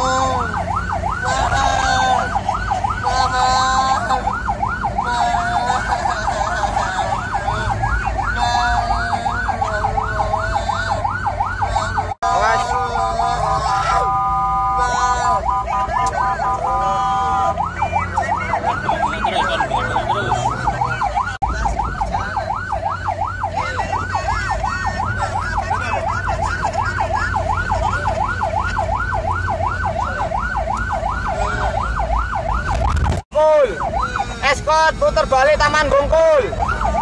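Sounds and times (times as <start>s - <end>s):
electronic siren: 0.0s - 37.0s
low car and road rumble: 0.0s - 37.0s.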